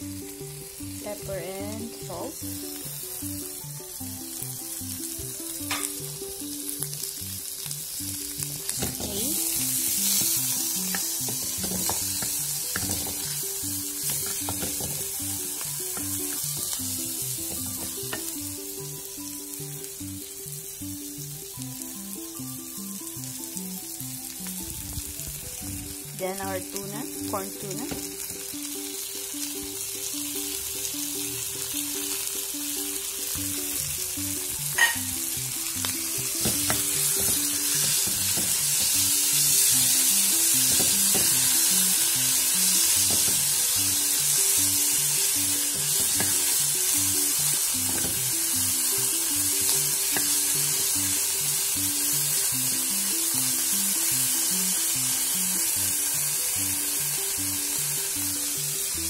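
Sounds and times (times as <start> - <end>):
fish sizzling in oil: 0.0 - 59.0.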